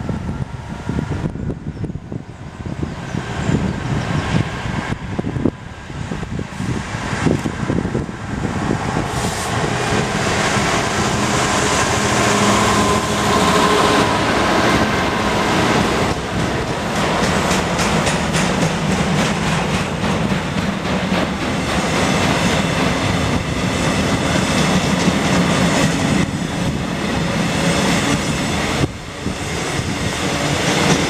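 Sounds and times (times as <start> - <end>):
diesel locomotive engine drone: 0.0 - 31.0
rail wagons rolling past: 0.0 - 31.0.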